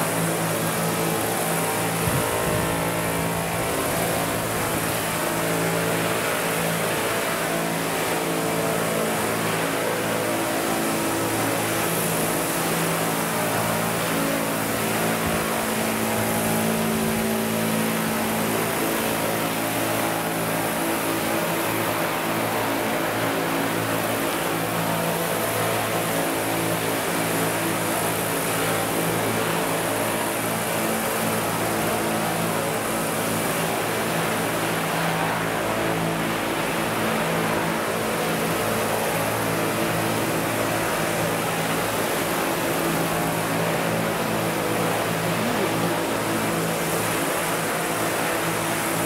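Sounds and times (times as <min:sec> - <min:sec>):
model helicopters droning: 0:00.0 - 0:49.0.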